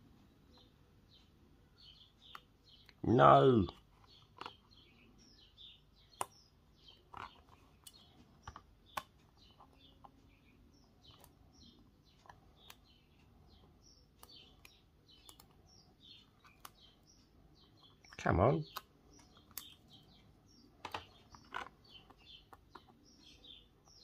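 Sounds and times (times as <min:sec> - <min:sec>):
small birds chirping faintly: 0:00.0 - 0:24.0.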